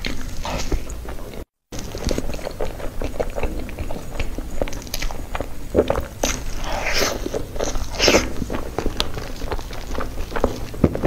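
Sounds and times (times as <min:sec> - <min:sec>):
chewing and lip smacking: 0:00.0 - 0:11.0.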